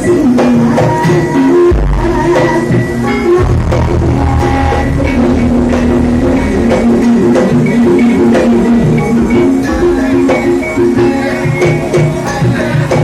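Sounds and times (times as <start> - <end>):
amplified band music: 0.0 - 13.0.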